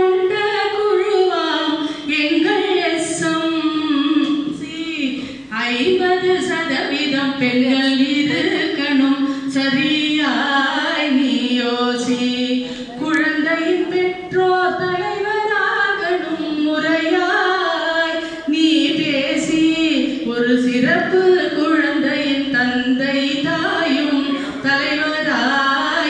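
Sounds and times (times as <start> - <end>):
woman singing into microphone: 0.0 - 26.0.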